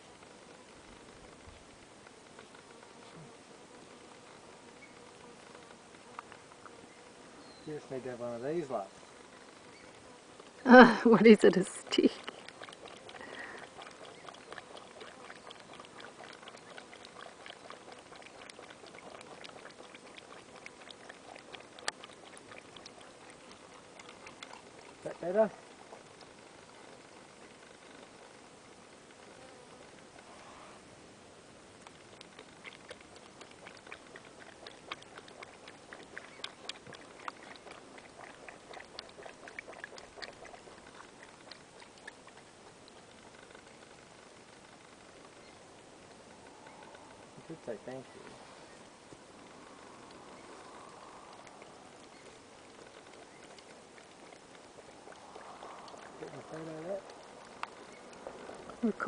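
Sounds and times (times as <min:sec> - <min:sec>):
kangaroo lapping water: 0:00.0 - 0:59.0.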